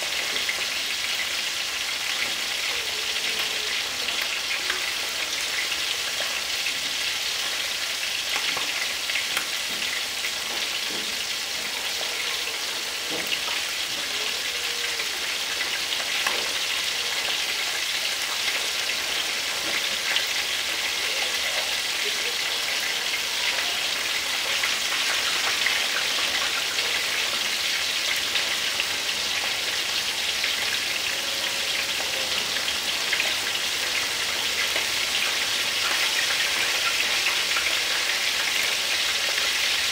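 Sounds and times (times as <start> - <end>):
fish deep-frying in oil: 0.0 - 39.9.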